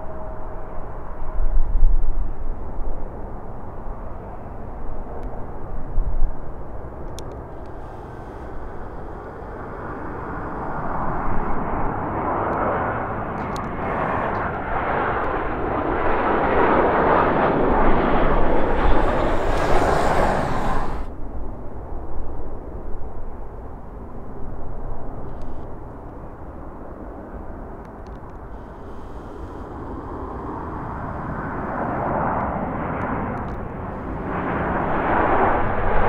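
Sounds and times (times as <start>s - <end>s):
jet engine roaring past: 0.0s - 21.8s, 24.6s - 36.0s.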